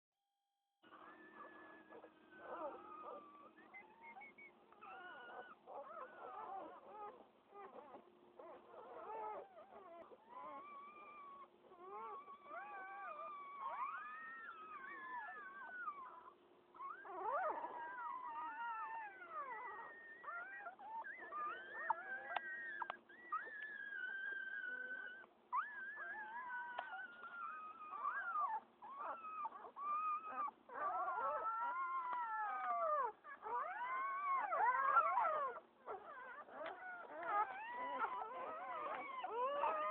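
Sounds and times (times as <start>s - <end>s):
puppies squealing and whining: 0.9s - 39.9s.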